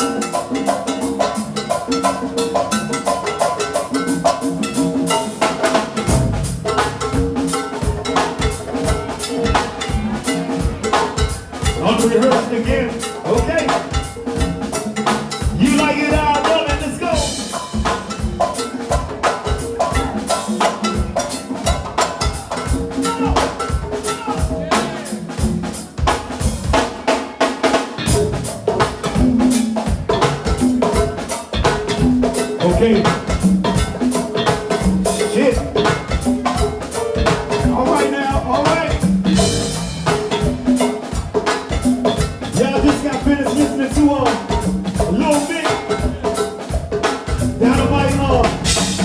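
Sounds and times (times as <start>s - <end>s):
drum kit: 0.0s - 49.0s
hand percussion: 0.0s - 49.0s
live band music: 0.0s - 49.0s.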